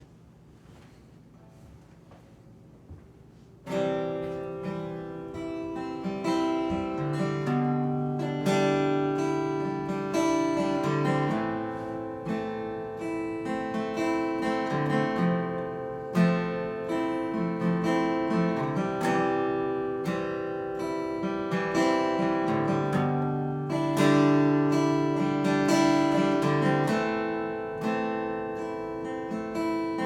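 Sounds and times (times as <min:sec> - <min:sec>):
acoustic guitar strumming: 0:03.6 - 0:30.0.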